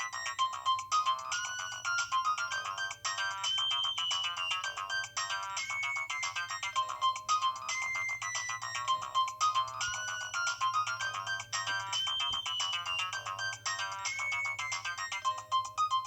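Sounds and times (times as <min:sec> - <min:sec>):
electronic phone ringtone melody: 0:00.0 - 0:16.0.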